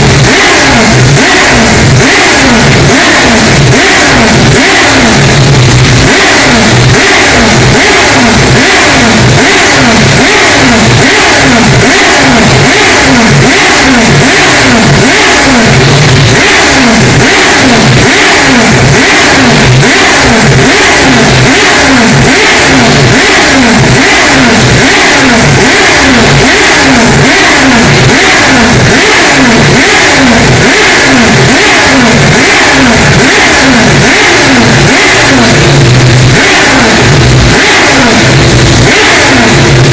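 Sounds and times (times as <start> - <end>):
rotary engine revving hard: 0.0 - 39.9.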